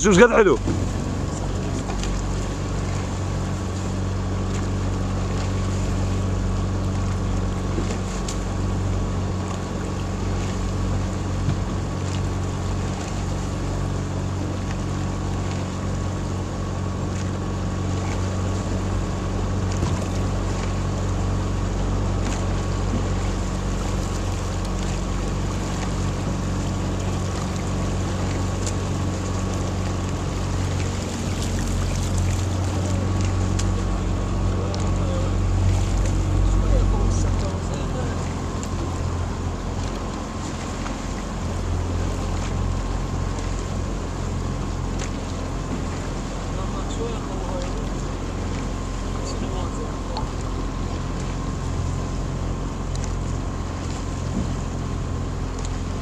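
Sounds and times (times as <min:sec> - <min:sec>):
motorboat engine running: 0:00.0 - 0:56.0
water noise: 0:00.0 - 0:56.0.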